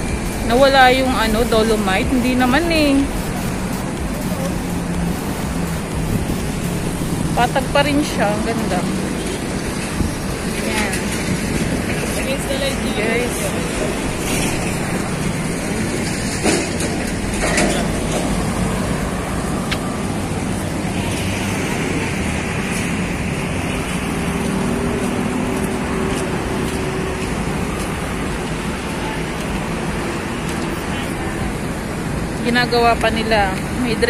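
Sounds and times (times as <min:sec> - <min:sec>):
faint engine hum: 0:00.0 - 0:34.0
traffic noise: 0:00.0 - 0:34.0.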